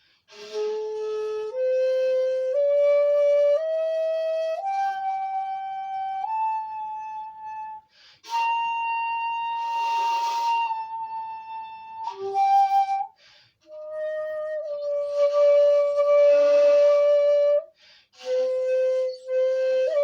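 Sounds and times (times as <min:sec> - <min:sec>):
bamboo flute playing a scale: 0:00.0 - 0:20.0.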